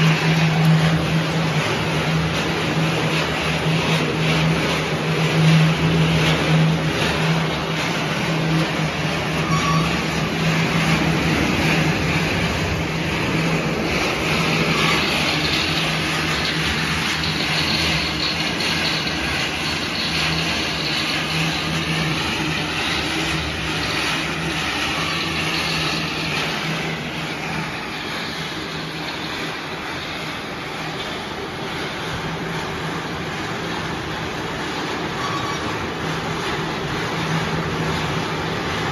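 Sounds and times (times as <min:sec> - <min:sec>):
rotating drum tumbling snacks: 0:00.0 - 0:33.7
low motor hum: 0:00.0 - 0:38.9.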